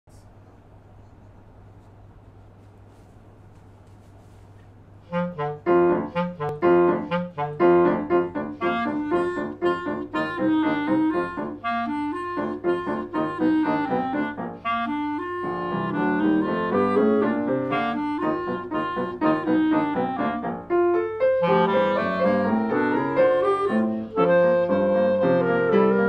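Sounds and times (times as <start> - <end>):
piano accompaniment: 5.0 - 26.0
clarinet playing lively tune: 5.1 - 26.0.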